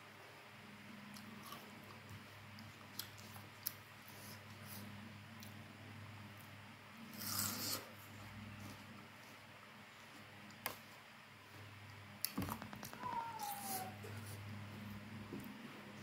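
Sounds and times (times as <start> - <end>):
low steady hum: 0.0 - 16.0
close-up eating sounds: 0.8 - 16.0.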